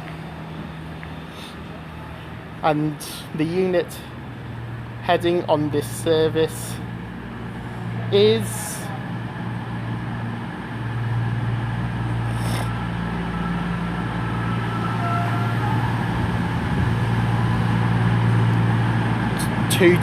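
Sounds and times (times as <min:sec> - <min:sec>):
diesel engines idling: 0:00.0 - 0:20.0.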